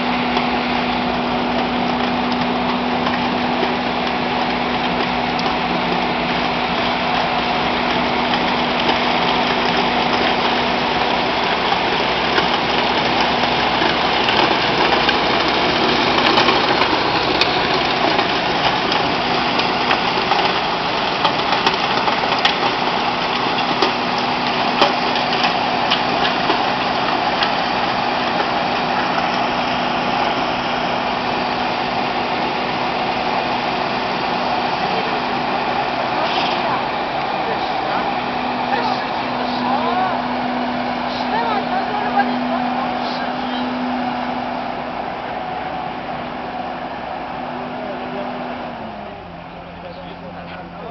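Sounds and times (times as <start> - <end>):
skid steer loader running: 0.0 - 50.9.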